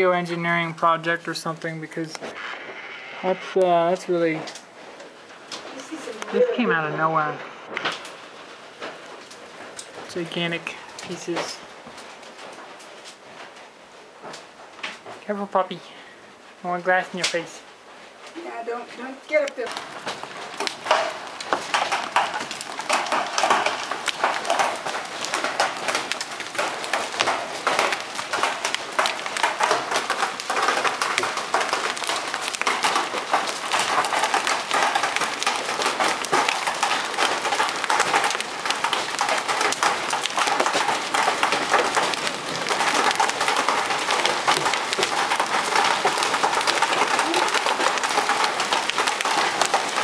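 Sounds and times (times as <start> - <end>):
hailstones pelting down: 0.0 - 50.0.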